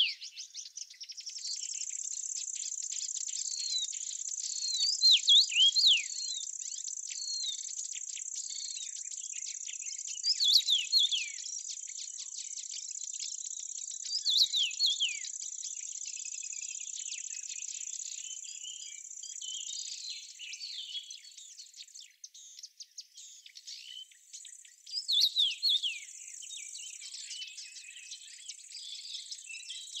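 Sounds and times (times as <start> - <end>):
birds chirping and whistling: 0.0 - 30.0.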